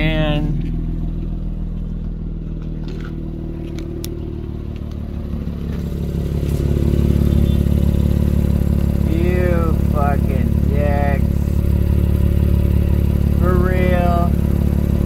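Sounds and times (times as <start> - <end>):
car engine with loud exhaust: 0.0 - 15.0.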